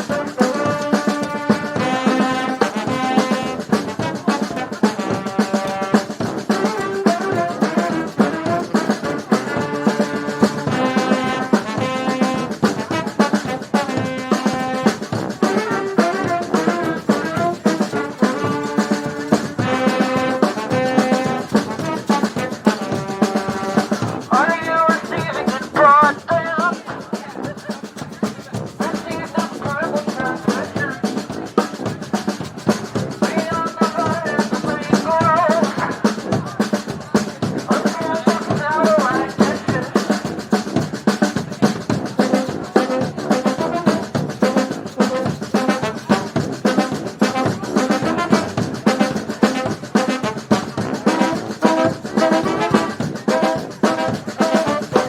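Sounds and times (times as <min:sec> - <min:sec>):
brass band horns: 0:00.0 - 0:55.0
drum beat: 0:00.0 - 0:55.0.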